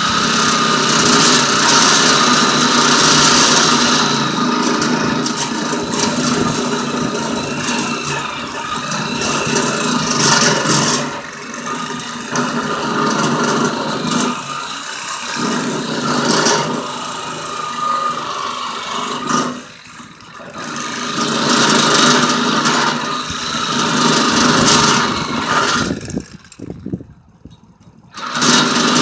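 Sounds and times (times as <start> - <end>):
reciprocating saw cutting steel: 0.0 - 26.7, 28.2 - 29.0.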